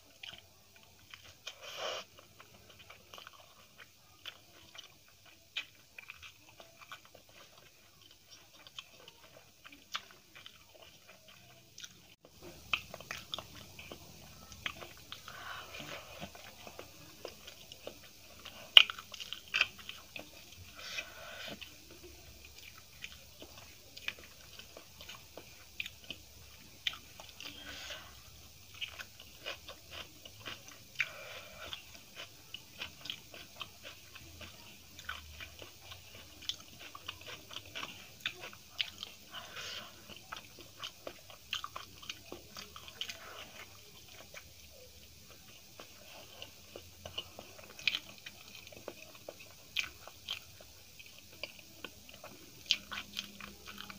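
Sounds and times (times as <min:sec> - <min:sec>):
person chewing and biting: 0:00.1 - 0:53.9.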